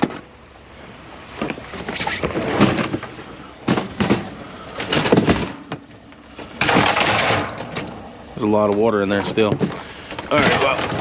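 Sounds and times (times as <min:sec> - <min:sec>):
scrap metal clattering and scraping: 0:01.4 - 0:11.0.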